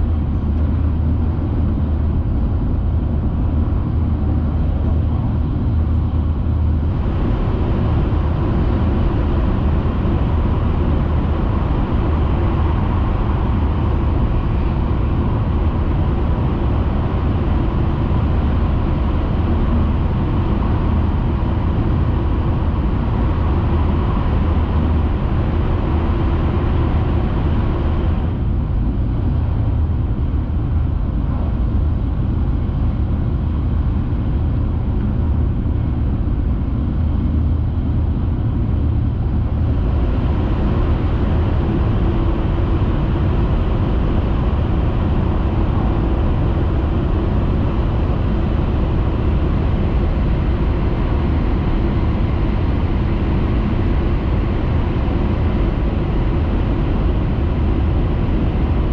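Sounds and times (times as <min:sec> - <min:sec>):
train rumbling at speed: 0:00.0 - 0:58.9.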